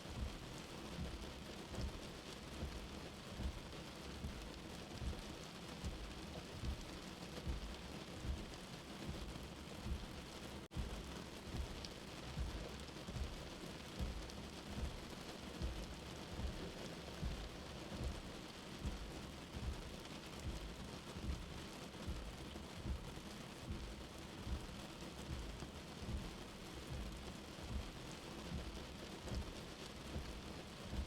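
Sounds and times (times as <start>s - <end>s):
steady rain: 0.0s - 31.0s
soft low heartbeat thumping: 0.1s - 31.0s.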